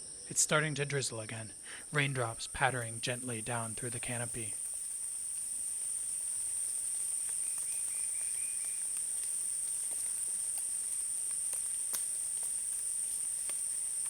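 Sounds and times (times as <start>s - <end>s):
light rain pattering on leaves: 2.5s - 14.0s.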